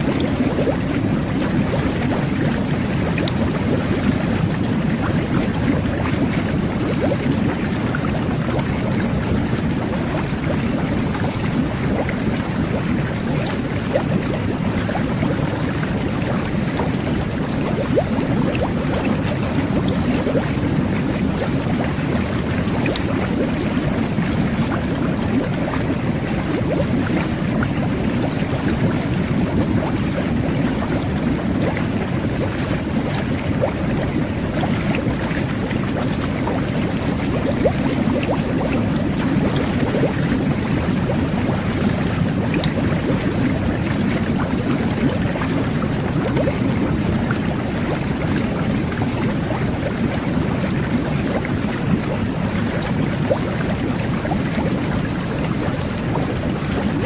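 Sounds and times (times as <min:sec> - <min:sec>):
bubbles popping and crackling: 0:00.0 - 0:57.0
jet bath water churning: 0:00.0 - 0:57.0.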